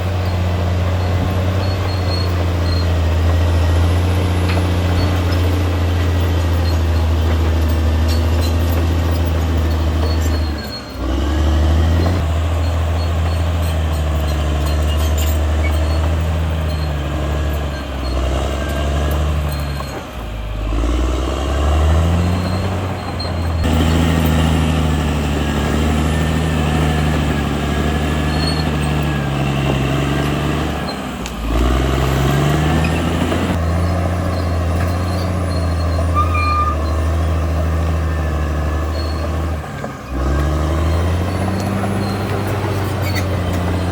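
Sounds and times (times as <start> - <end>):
bulldozer diesel engine under load: 0.0 - 43.9.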